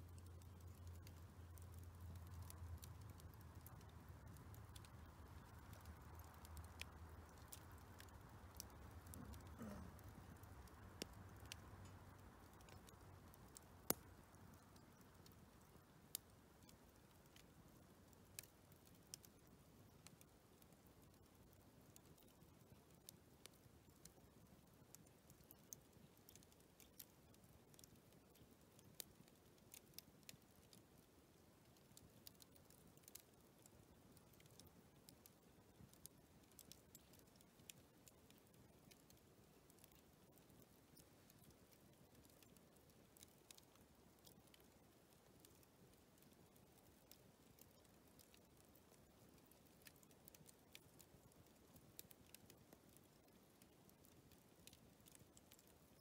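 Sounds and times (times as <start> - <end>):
low background hiss: 0.0 - 56.0
faint sharp clicks: 0.1 - 17.6, 18.2 - 31.1, 31.7 - 56.0.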